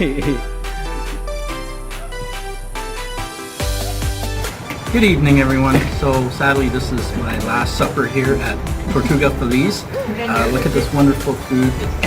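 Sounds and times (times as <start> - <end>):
electronic music with synth and beat: 0.0 - 12.0.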